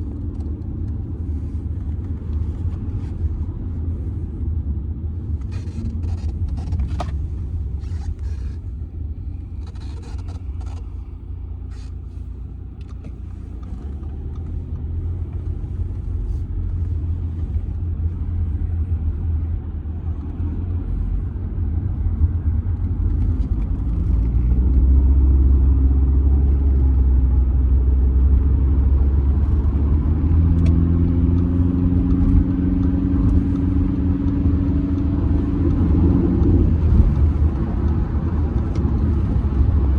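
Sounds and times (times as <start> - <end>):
car engine accelerating: 0.0 - 39.9
road and tyre rumble: 0.0 - 39.9.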